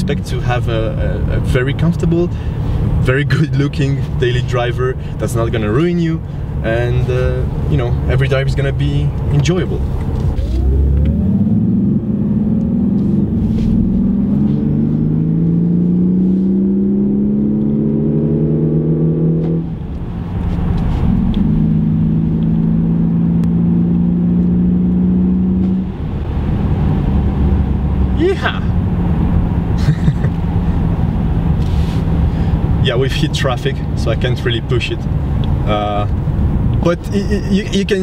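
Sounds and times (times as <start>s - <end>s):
car engine accelerating: 0.0s - 38.0s
road noise: 0.0s - 38.0s.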